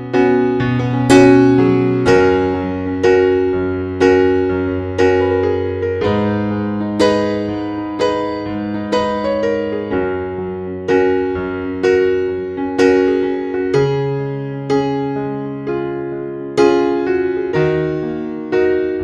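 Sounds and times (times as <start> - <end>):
slow keyboard chords: 0.0 - 19.0.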